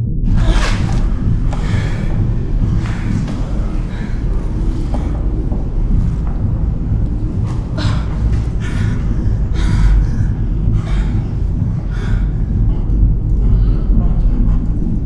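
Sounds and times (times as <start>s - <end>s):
loud low rumble: 0.0s - 15.0s
person gasping heavily: 0.3s - 6.0s, 7.3s - 14.1s.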